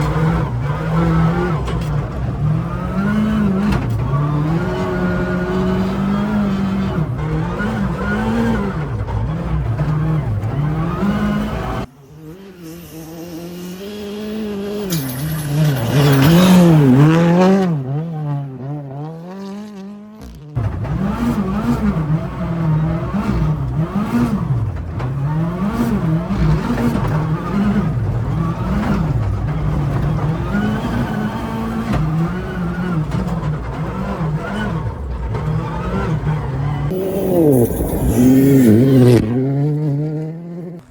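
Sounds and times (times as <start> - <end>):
turbocharged car engine revving: 0.0 - 40.9.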